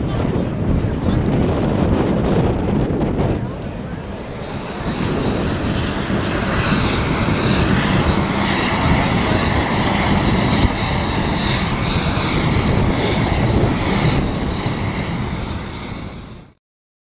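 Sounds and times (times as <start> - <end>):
aircraft engine rushing: 0.0 - 16.6.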